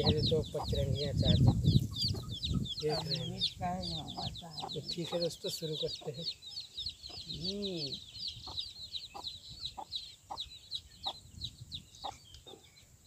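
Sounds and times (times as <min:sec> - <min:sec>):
birds chirping high notes: 0:00.0 - 0:13.0.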